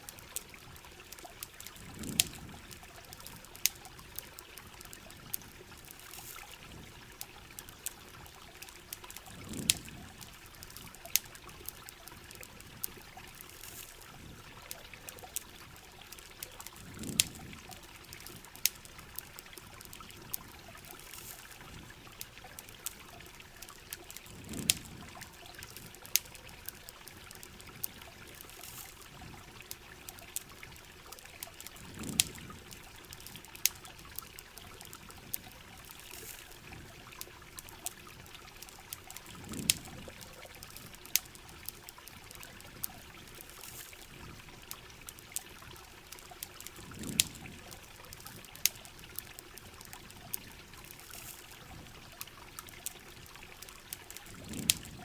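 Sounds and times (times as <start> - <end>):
campfire crackling: 0.0 - 55.0
rain: 0.0 - 55.0
trickling water: 0.0 - 55.0.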